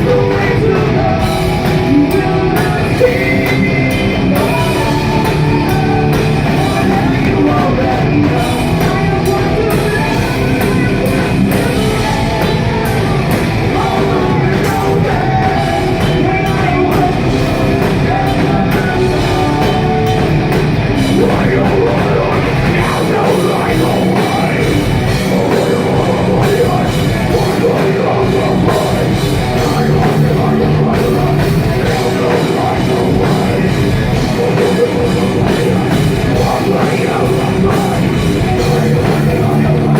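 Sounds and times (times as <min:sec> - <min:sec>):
metal band playing distorted: 0:00.0 - 0:39.9.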